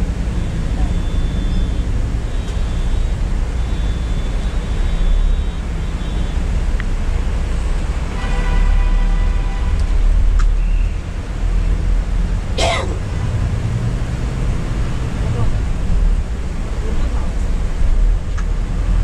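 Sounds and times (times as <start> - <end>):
diesel engine and road rumble: 0.0 - 19.0.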